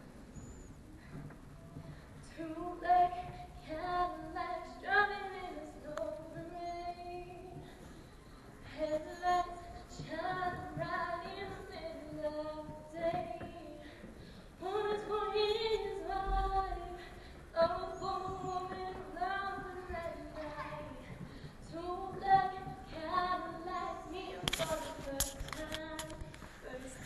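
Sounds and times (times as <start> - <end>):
girl singing unaccompanied: 1.8 - 7.8, 8.6 - 27.0.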